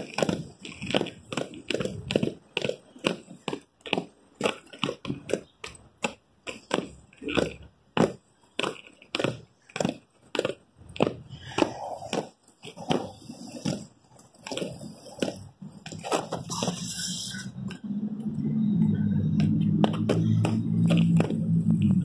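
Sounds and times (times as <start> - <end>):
roller skate wheels on concrete: 0.0 - 22.0.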